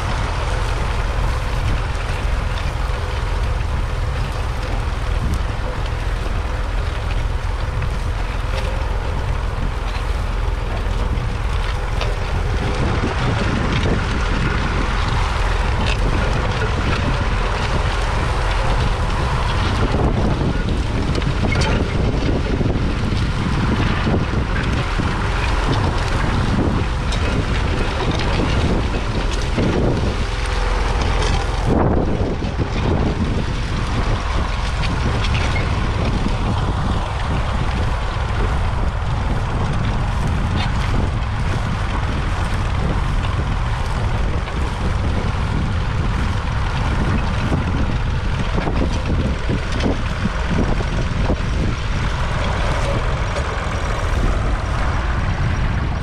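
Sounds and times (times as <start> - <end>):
tractor diesel engine running: 0.0 - 56.0
wind buffeting microphone: 0.0 - 56.0.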